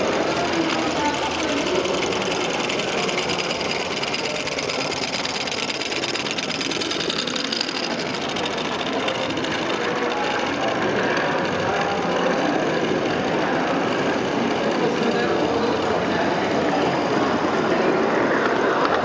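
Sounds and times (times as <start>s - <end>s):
engine mechanical clatter: 0.0s - 19.0s.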